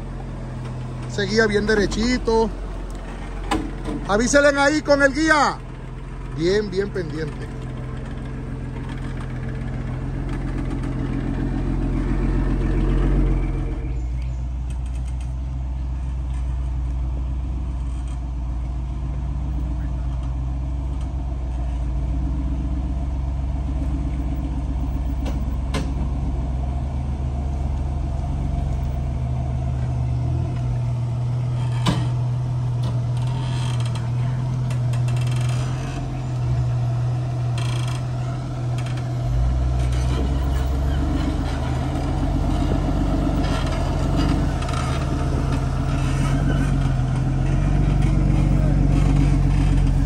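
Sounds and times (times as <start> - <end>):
off-road vehicle engine hum: 0.0 - 50.0.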